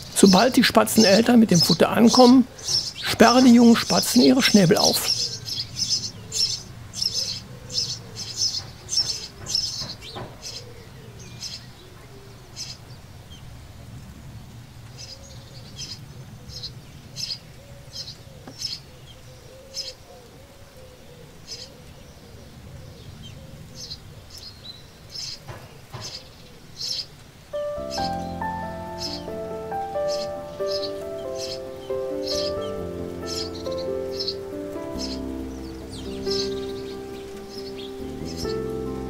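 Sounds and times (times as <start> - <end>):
sparrows chirping: 0.0 - 20.2, 21.0 - 39.0.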